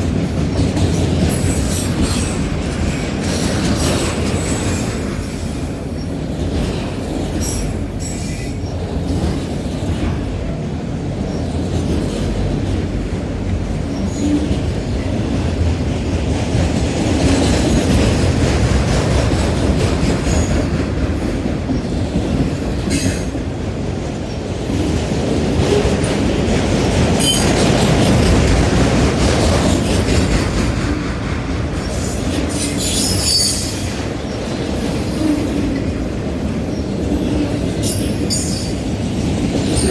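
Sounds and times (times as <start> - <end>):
freight train wheels on track: 0.0 - 39.9.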